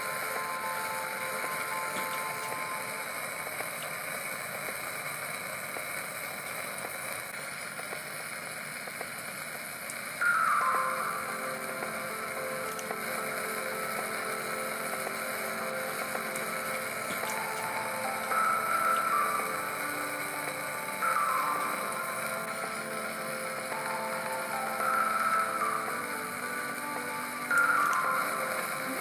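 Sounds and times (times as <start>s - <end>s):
welding arc crackle and hiss: 0.0s - 29.0s.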